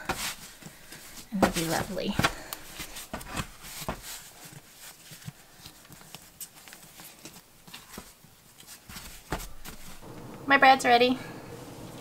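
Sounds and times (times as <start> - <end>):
hands patting bread dough: 0.0 - 10.0.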